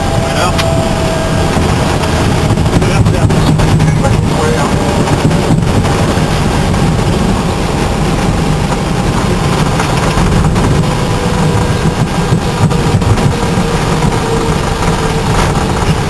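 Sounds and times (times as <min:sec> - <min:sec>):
plane wheels and engines rumbling: 0:00.0 - 0:16.0.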